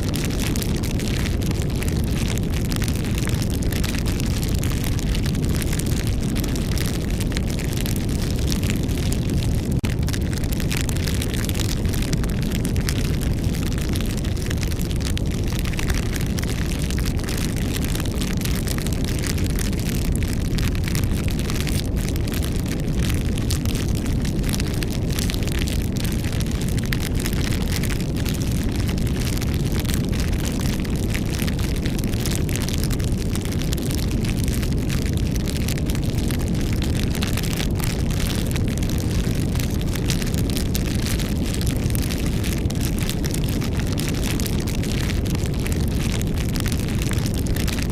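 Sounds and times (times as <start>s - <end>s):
campfire low rumble: 0.0s - 47.9s
wood crackling and popping: 0.0s - 47.9s.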